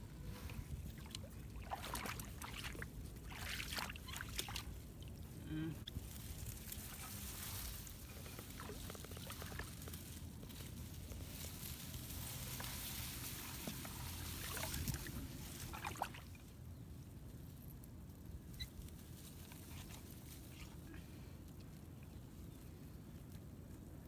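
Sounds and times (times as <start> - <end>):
grass and reeds rustling: 0.0 - 24.0.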